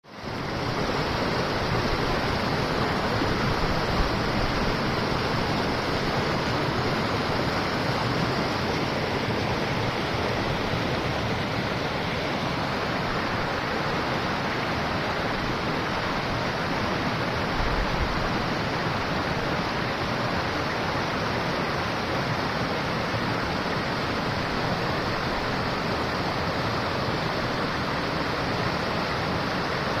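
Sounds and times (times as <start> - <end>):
river water rushing: 0.1 - 30.0.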